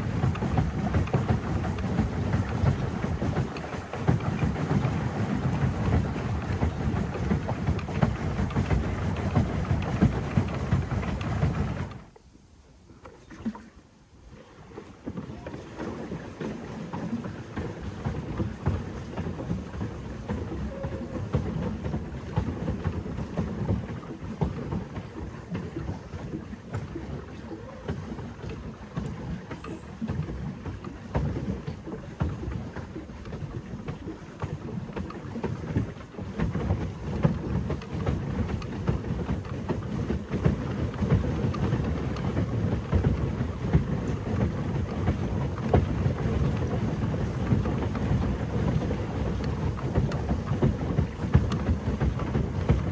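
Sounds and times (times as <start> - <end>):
wind buffeting microphone: 0.0 - 12.1, 15.0 - 52.9
churning water: 0.0 - 52.9.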